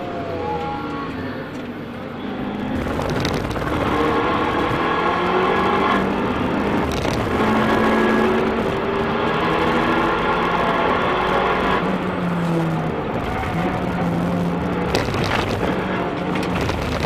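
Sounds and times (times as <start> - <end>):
car engine accelerating hard: 2.6 - 17.0.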